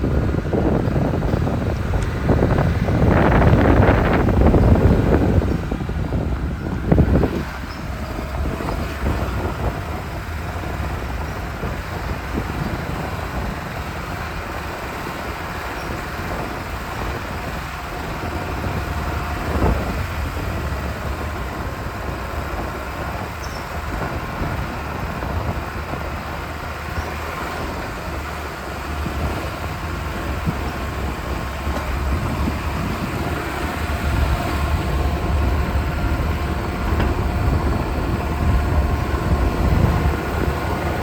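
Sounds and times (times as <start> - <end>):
engine and road rumble: 0.0 - 41.0.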